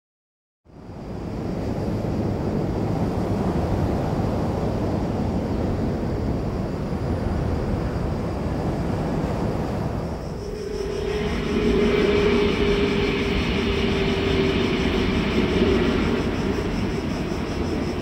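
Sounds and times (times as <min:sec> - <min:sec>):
distant train crossing a bridge: 0:00.8 - 0:18.0.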